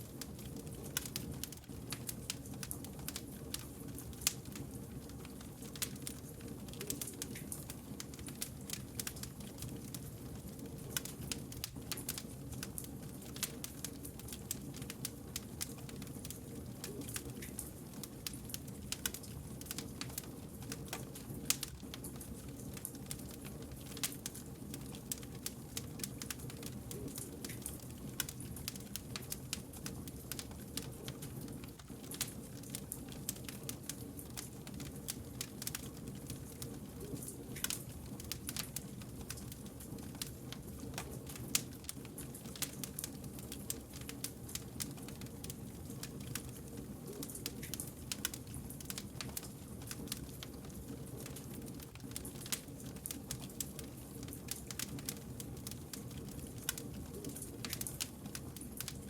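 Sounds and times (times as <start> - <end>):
campfire crackling and popping: 0.0 - 59.0
low rumble of burning logs: 0.0 - 59.0.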